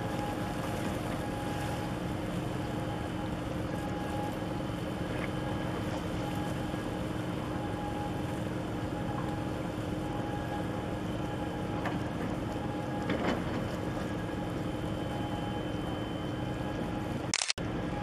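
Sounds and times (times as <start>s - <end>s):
water noise: 0.0s - 17.9s
ship machinery rumble: 0.0s - 18.0s
wind: 0.0s - 18.0s.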